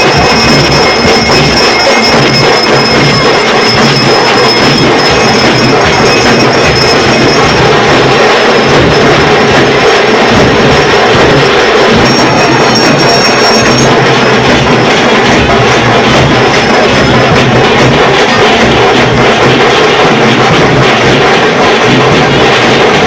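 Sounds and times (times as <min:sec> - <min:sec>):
festival music with drumming: 0:00.0 - 0:23.0.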